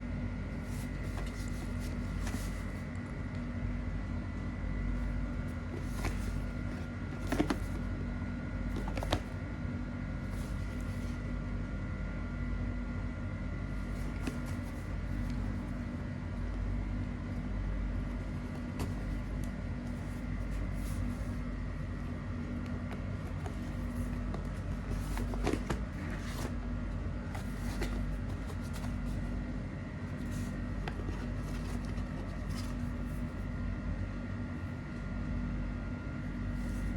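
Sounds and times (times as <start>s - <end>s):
steady low hum with tones: 0.0s - 36.9s.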